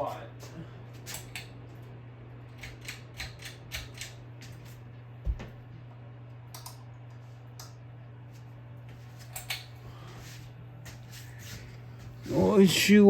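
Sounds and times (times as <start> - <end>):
ceiling fan motor buzzing: 0.0 - 13.0.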